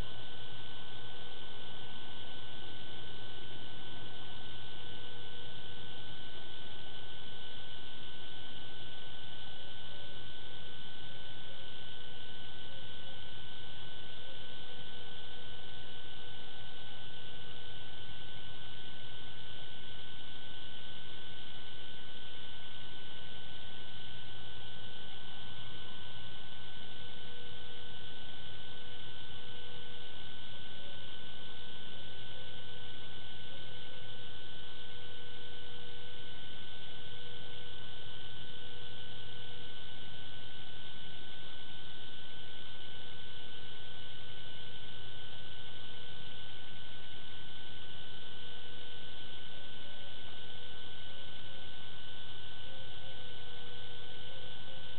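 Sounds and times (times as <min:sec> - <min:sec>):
electronic hum and hiss: 0:00.0 - 0:54.9.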